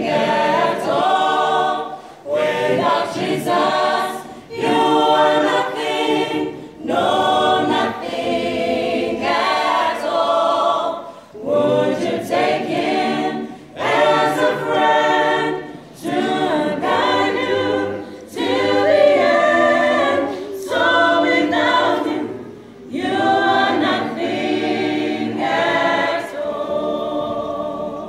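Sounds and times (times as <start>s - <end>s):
choir singing unaccompanied: 0.0s - 28.0s.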